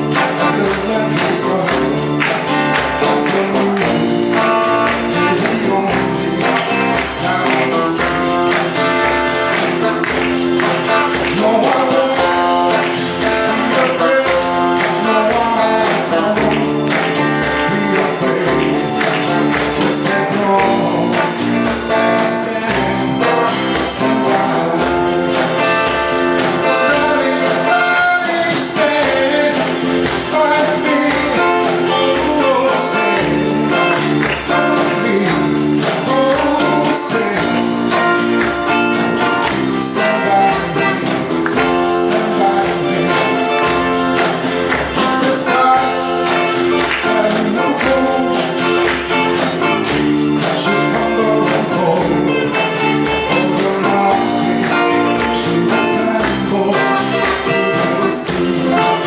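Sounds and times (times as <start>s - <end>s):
bass: 0.0s - 59.0s
guitar: 0.0s - 59.0s
person singing: 0.0s - 59.0s
steady drum beat: 0.0s - 59.0s.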